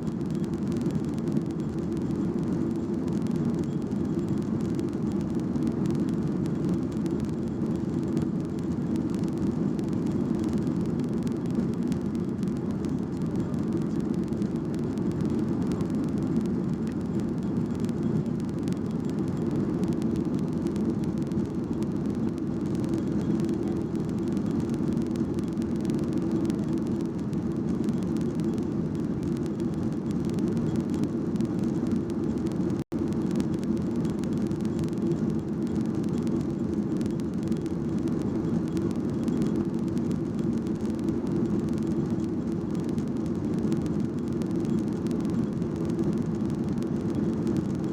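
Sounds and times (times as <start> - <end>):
jet engine cabin rumble: 0.0 - 47.9.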